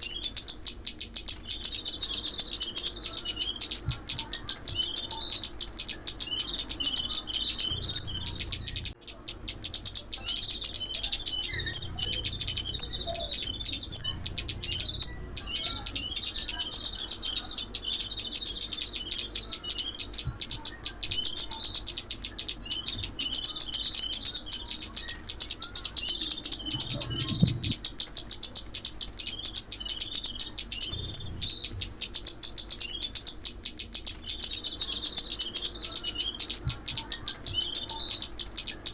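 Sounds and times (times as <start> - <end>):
songbird chirping and twittering: 0.0 - 38.9
thin steady high tone: 0.0 - 38.9.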